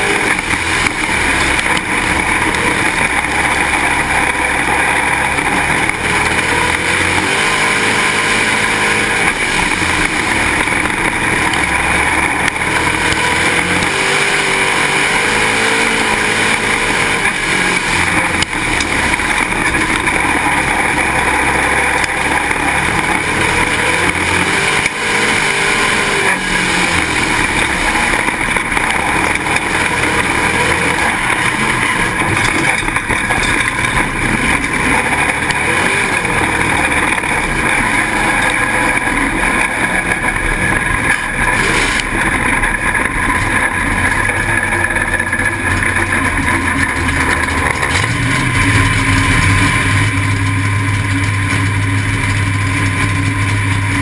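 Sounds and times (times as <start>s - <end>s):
deep steady hum: 0.0s - 54.0s
race car engine running hard: 0.0s - 54.0s
road and wind noise: 0.0s - 54.0s.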